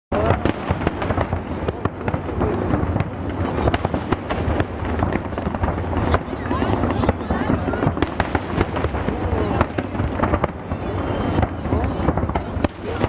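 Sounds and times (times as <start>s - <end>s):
fireworks bangs and crackles: 0.1s - 13.0s.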